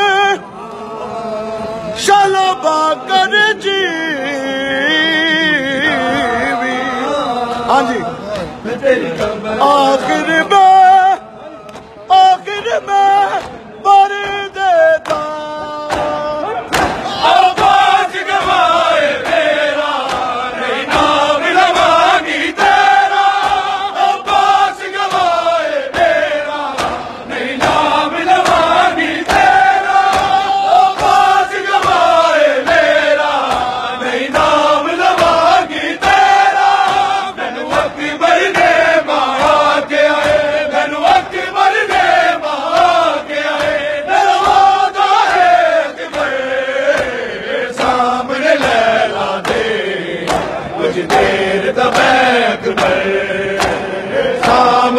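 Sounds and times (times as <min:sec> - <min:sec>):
crowd of men chanting: 0:00.0 - 0:54.9
rhythmic hand slaps on chests: 0:07.4 - 0:54.9.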